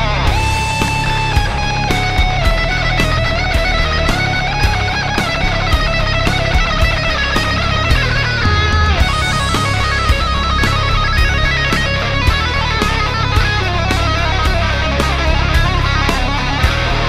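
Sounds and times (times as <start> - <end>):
bass guitar: 0.0 - 17.0
electric guitar long notes: 0.0 - 17.0
steady drum beat: 0.0 - 17.0.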